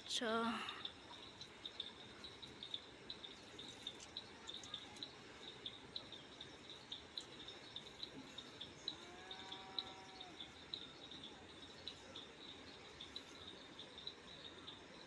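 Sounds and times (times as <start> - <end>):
faint insect chirping: 0.0 - 15.0.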